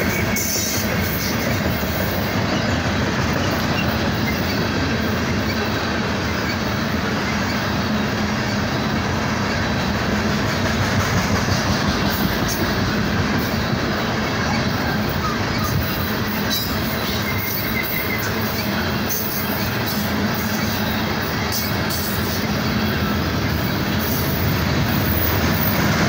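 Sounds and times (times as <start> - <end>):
train wheels running on rails: 0.0 - 26.0.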